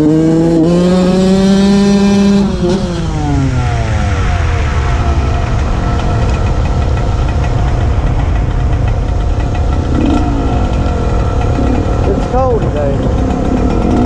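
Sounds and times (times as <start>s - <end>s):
two-stroke motorbike engine revving: 0.0s - 14.0s.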